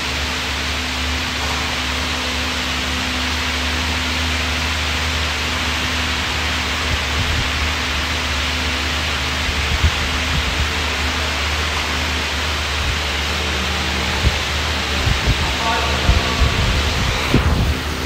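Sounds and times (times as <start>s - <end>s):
air bike fan whooshing: 0.0s - 18.0s.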